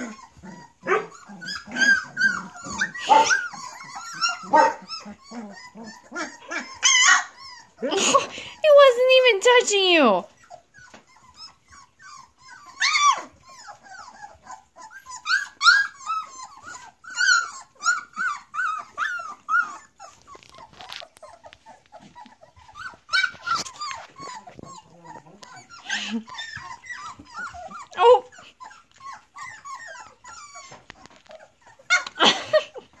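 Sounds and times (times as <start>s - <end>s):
puppy squeals: 0.0s - 8.9s, 10.0s - 33.0s
puppies whimpering and yipping: 0.0s - 33.0s.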